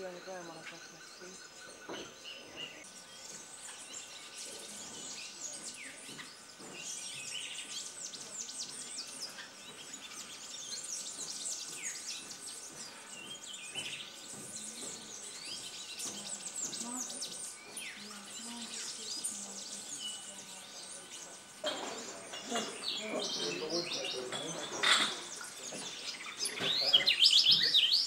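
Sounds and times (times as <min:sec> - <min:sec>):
birds chorus: 0:00.0 - 0:28.0
insect hum: 0:00.0 - 0:28.0.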